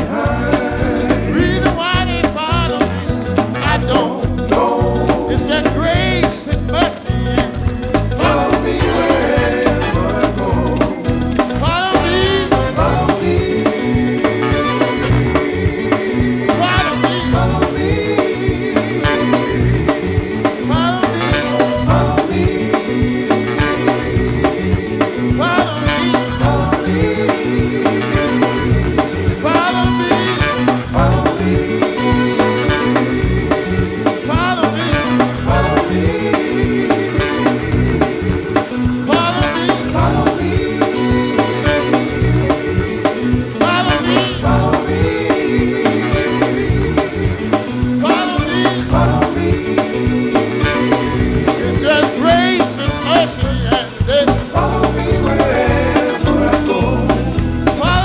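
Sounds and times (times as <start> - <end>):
band music with drum beat: 0.0 - 58.0
people singing: 0.0 - 58.0.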